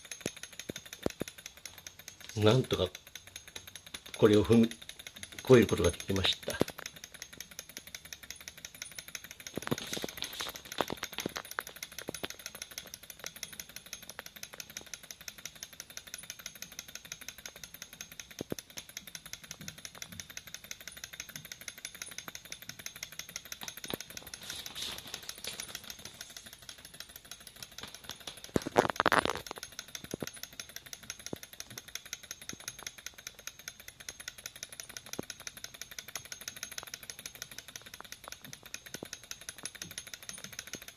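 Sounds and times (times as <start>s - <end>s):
loud mechanical clatter: 0.0s - 40.9s
rapid mechanical ticking: 0.0s - 40.9s.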